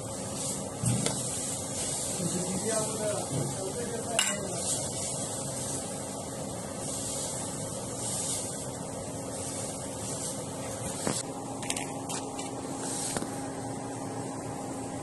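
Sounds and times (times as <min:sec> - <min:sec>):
ventilation hum and hiss: 0:00.0 - 0:15.0.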